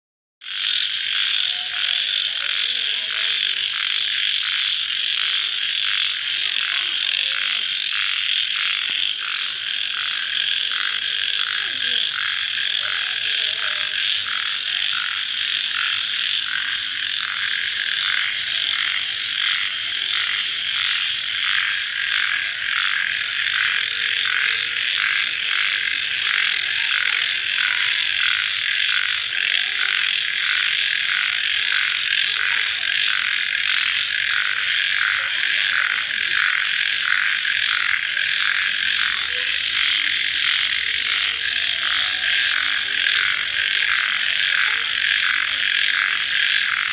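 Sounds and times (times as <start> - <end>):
crickets chirping: 0.5 - 46.9.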